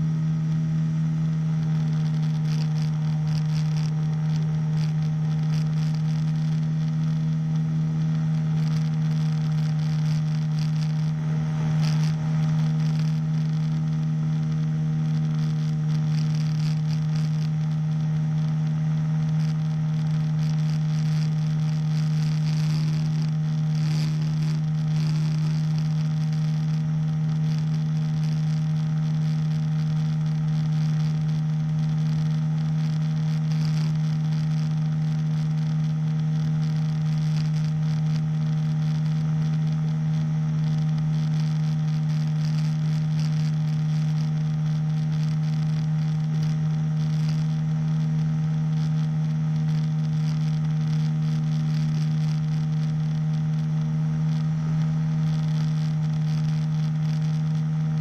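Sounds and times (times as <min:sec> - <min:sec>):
small engine droning: 0:00.0 - 0:58.0.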